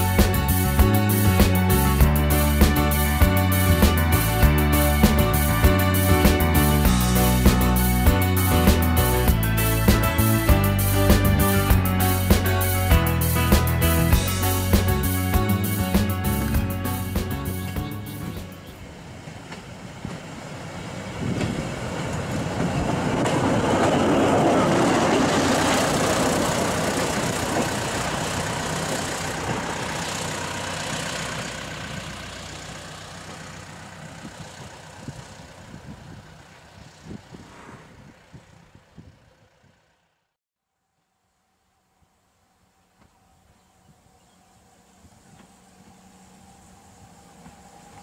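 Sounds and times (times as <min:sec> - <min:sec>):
diesel engine passing on track: 0:00.0 - 0:39.7, 0:44.0 - 0:48.0.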